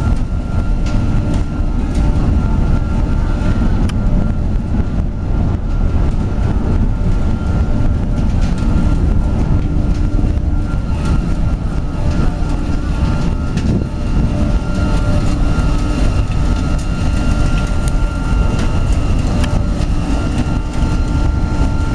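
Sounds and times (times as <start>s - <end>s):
faint steady whine: 0.0s - 21.9s
pellet burner fan and flame rushing: 0.0s - 21.9s.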